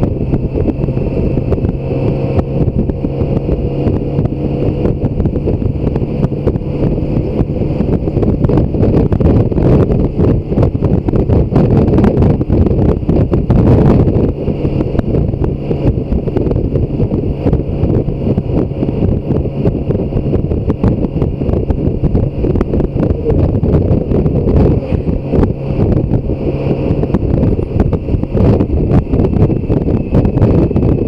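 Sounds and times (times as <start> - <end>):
motorcycle engine humming: 0.0 - 31.0
wind buffeting microphone: 0.0 - 31.0.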